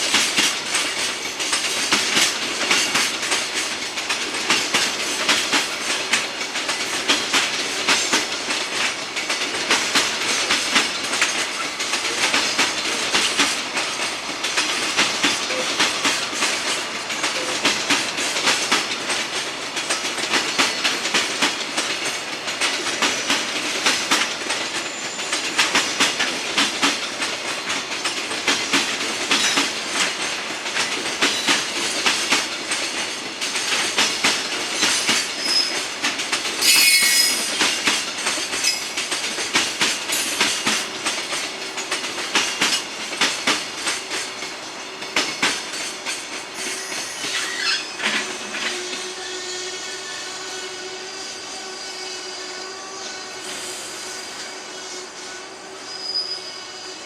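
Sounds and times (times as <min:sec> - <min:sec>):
freight train rumble: 0:00.0 - 0:57.0
train wheels clacking: 0:00.0 - 0:57.0.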